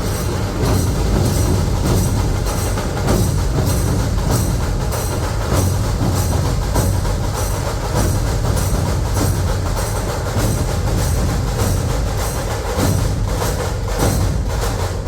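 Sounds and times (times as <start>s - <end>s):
deep barrel drums: 0.0s - 15.0s
fast clattering drums: 0.0s - 15.0s.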